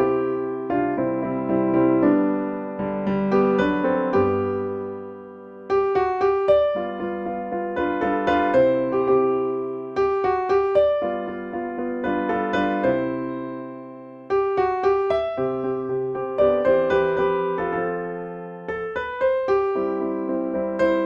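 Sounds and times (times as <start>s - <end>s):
solo piano playing hymn chords: 0.0s - 21.0s.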